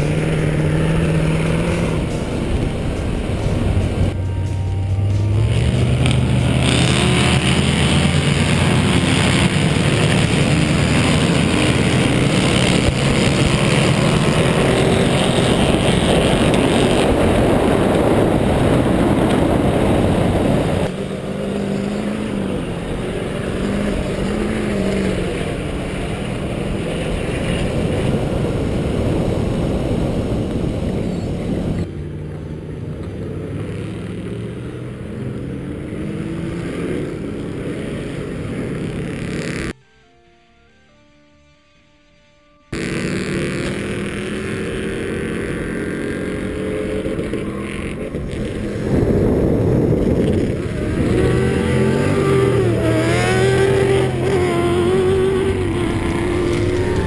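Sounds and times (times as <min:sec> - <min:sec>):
diesel truck engines revving: 0:00.0 - 0:40.2, 0:42.7 - 0:57.0.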